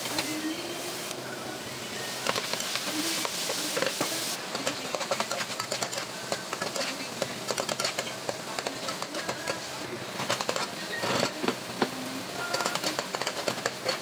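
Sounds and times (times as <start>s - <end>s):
food sizzling in a frying pan: 0.0s - 14.0s
spatula scraping and tapping pan: 2.2s - 14.0s.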